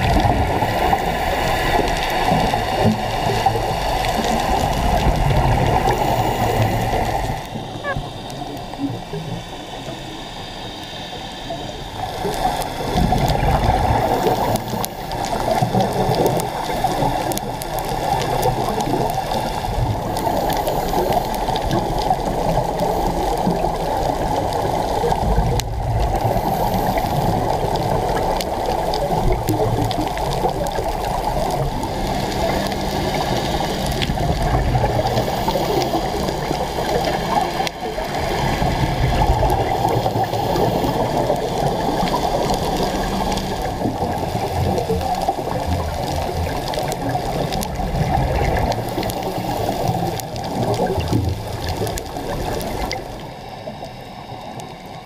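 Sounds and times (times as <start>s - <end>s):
low water surges: 0.0s - 55.0s
muffled underwater water rushing: 0.0s - 55.0s.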